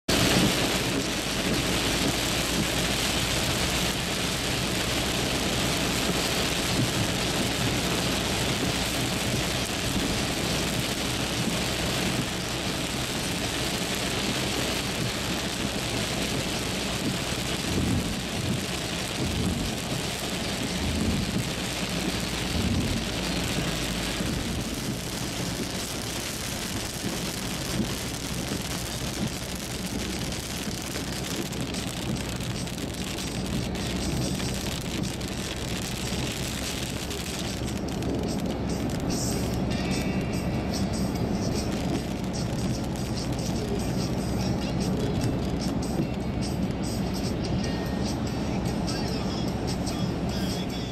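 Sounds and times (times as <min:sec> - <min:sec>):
heavy rain on car roof: 0:00.0 - 0:50.9
road and tyre noise: 0:00.0 - 0:50.9.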